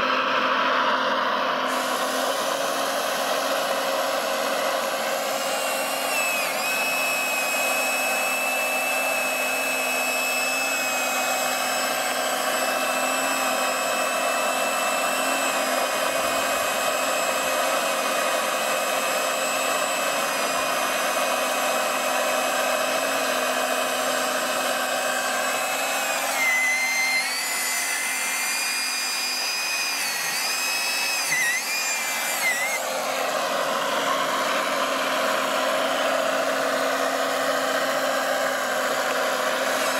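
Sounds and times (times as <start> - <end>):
model excavator motor whining: 0.0 - 39.9.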